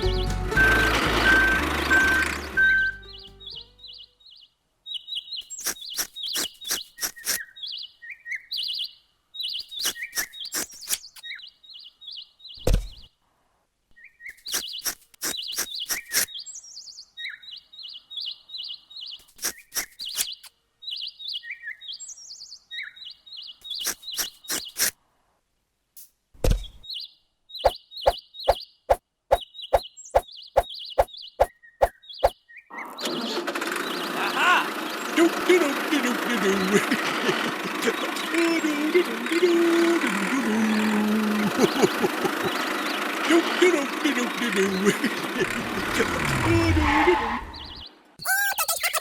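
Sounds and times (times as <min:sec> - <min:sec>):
birds chirping: 0:01.4 - 0:13.2, 0:14.0 - 0:24.9, 0:26.6 - 0:33.2, 0:33.8 - 0:49.0.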